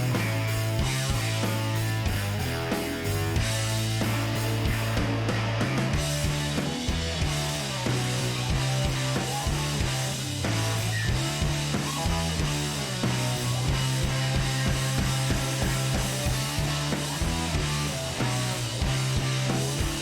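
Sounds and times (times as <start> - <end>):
rock music with guitar and drums: 0.0 - 20.0.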